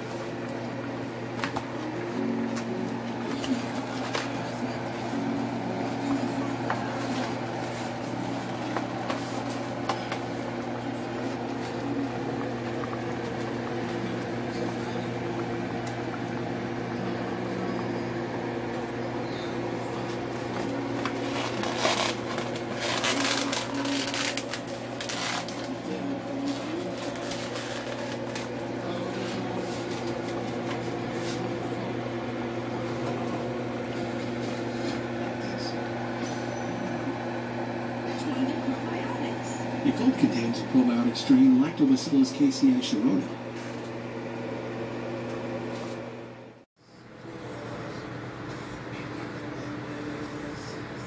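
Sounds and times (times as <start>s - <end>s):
kitchen appliance humming: 0.0s - 51.0s.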